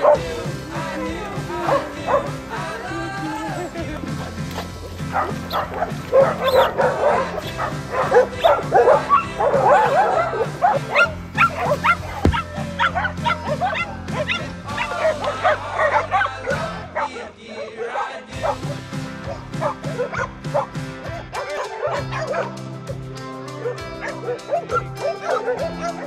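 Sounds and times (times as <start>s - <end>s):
background music with bass line: 0.0s - 17.4s, 18.3s - 26.0s
dogs barking and yipping: 0.0s - 26.0s.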